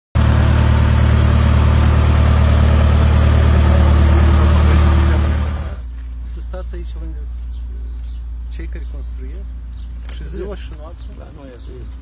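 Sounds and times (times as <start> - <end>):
road roller diesel engine running: 0.2 - 10.7.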